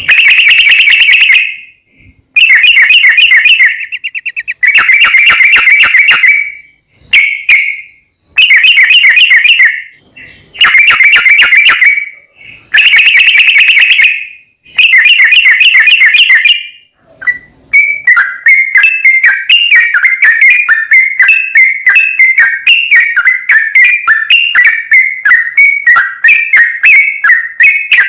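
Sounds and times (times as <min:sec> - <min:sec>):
bulbul song: 0:00.0 - 0:28.0.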